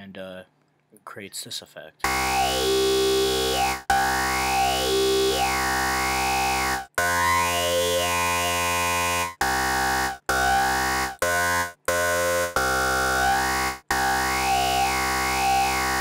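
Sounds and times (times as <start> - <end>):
synthesizer with vowel-like filter sweep: 2.0 - 16.0.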